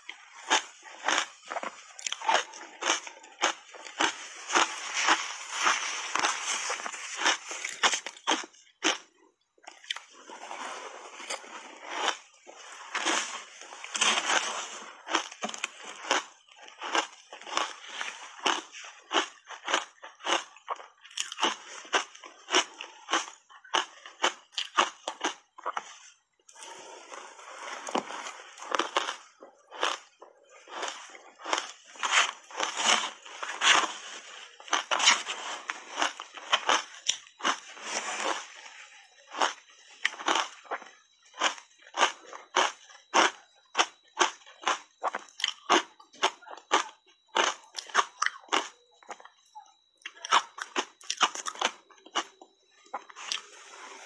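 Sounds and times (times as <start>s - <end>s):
crunchy shaved ice being chewed: 0.0s - 54.0s.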